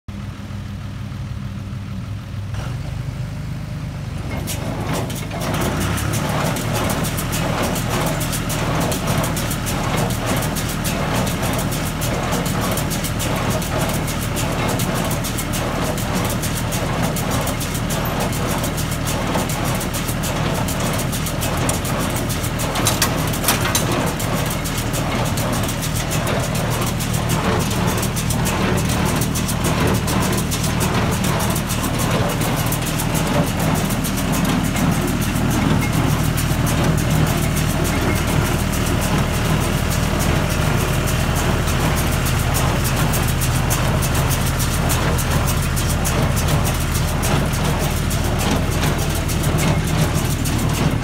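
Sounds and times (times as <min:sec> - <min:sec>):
tractor engine running: 0:00.1 - 0:51.0
baler metallic clatter: 0:04.2 - 0:51.0.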